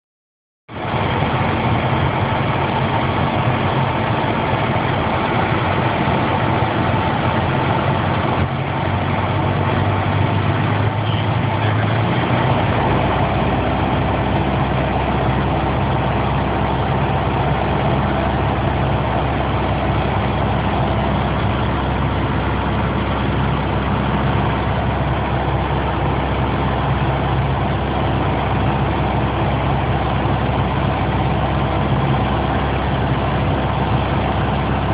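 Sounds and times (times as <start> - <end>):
deep steady hum: 0.7 - 34.9
light aircraft engine drone: 0.7 - 34.9.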